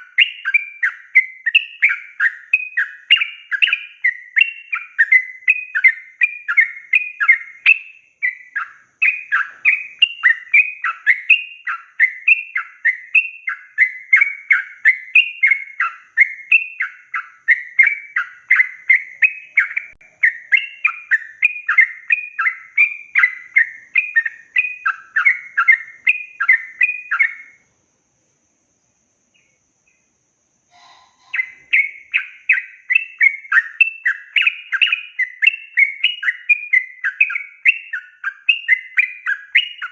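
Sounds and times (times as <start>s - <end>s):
bird singing chattering notes: 0.0s - 27.6s, 30.7s - 39.9s.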